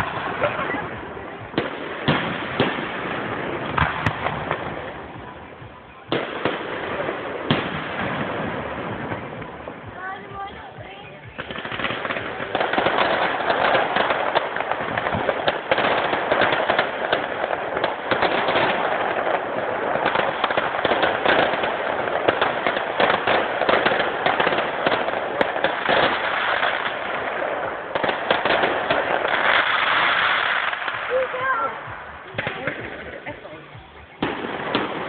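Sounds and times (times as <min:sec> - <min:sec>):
fireworks crackling and popping: 0:00.0 - 0:35.0.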